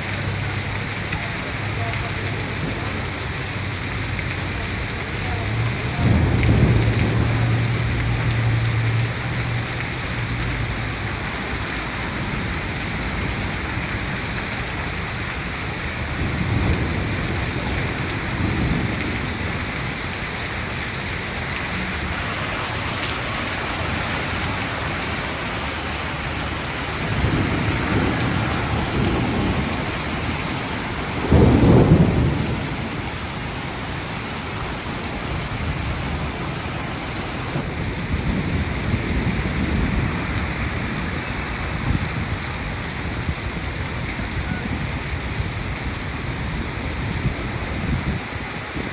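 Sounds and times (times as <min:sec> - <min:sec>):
heavy rain falling: 0:00.0 - 0:48.9
thunder rumbling: 0:00.0 - 0:48.9
thunder clap: 0:00.2 - 0:48.9.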